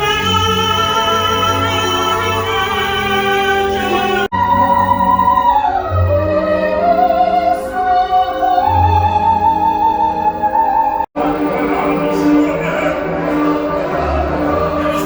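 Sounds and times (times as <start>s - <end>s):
choir singing: 0.0s - 15.0s
operatic singing: 0.0s - 15.0s
orchestral music: 0.0s - 15.0s.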